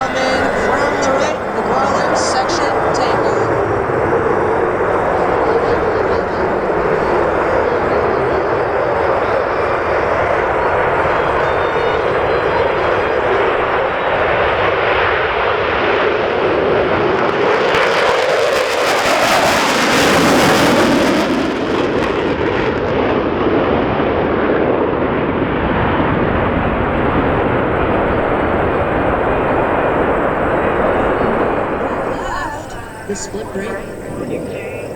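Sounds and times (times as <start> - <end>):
jet engines roaring past: 0.0 - 34.9.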